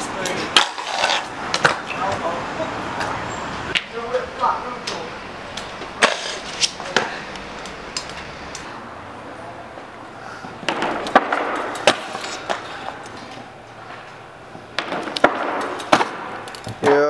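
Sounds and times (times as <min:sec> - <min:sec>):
scooter wheels rolling on concrete: 0:00.0 - 0:17.0.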